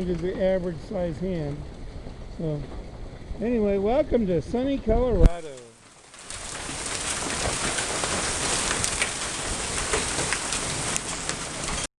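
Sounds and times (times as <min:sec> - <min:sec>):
hail and rain pelting down: 0:00.0 - 0:11.9
hailstones clicking on hard surfaces: 0:00.0 - 0:11.9.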